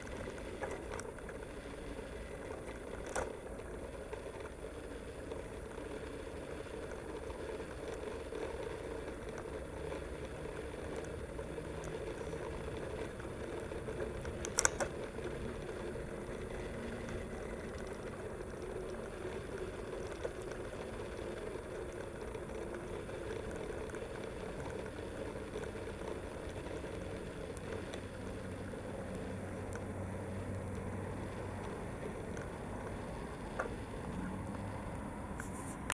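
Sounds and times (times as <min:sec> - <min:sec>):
bike tyres rumbling on pavement: 0:00.0 - 0:35.9.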